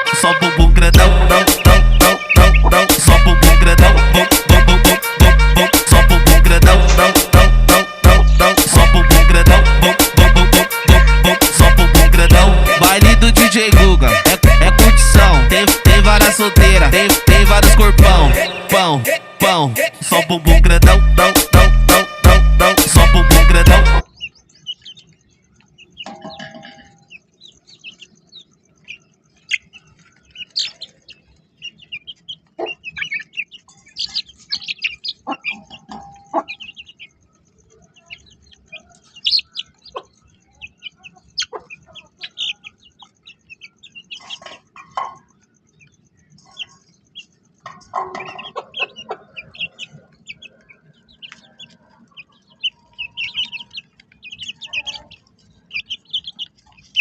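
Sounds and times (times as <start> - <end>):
hens clucking: 0.0 - 57.0
small birds chirping: 0.0 - 57.0.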